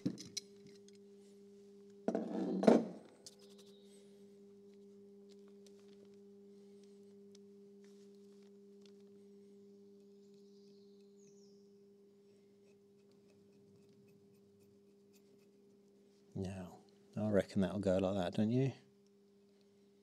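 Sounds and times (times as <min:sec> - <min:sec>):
steady two-tone hum: 0:00.0 - 0:20.0.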